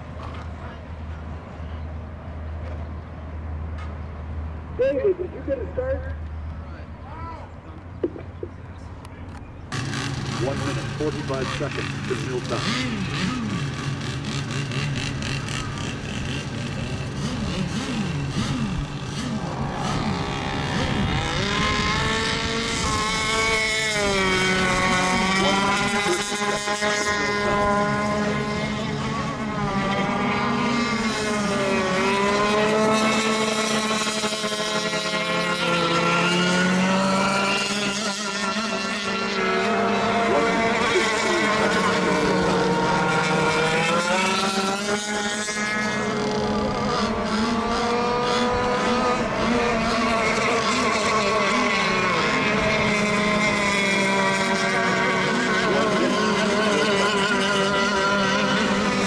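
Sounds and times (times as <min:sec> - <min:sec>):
rc boat engines whining: 0:04.2 - 0:59.0.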